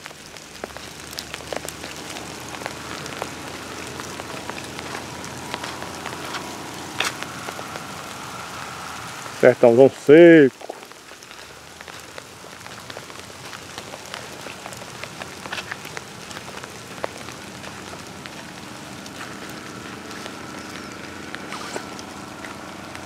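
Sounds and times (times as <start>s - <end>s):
light rain on dry leaves: 0.0s - 23.0s.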